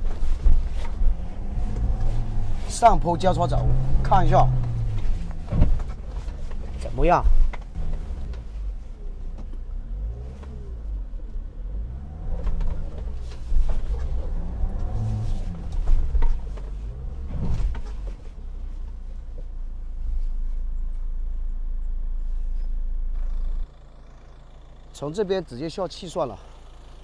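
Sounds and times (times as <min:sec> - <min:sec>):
diesel engine rumbling: 0:00.0 - 0:27.0.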